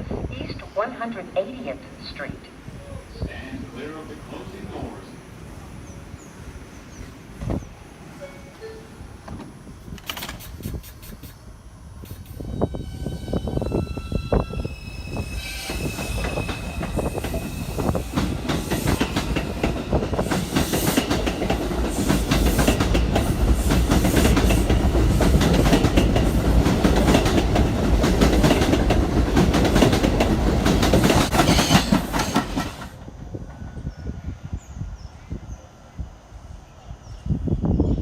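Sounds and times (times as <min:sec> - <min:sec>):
subway train running: 0:00.0 - 0:38.0.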